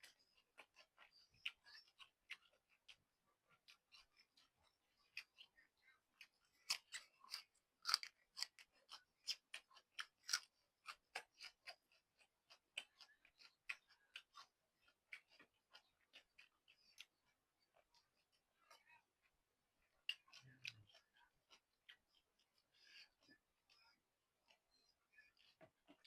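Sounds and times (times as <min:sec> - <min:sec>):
person chewing noodles: 0:00.0 - 0:26.0.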